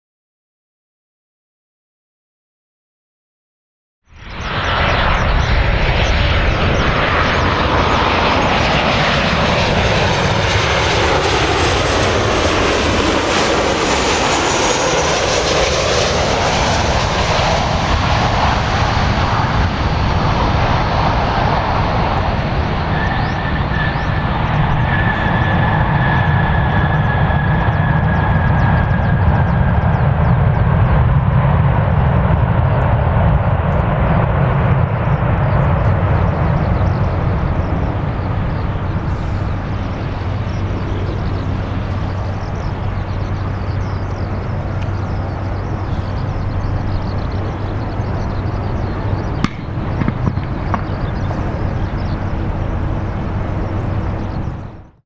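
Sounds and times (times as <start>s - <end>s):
high whine: 4.1s - 55.0s
jet engine rushing noise: 4.1s - 55.0s
deep rumble: 4.2s - 55.0s.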